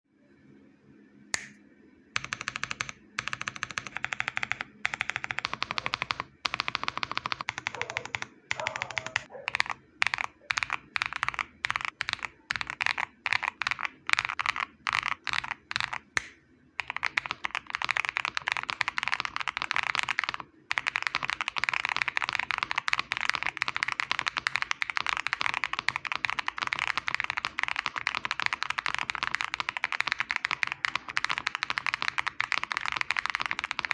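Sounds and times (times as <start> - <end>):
typing on mechanical keyboard: 2.2 - 33.9.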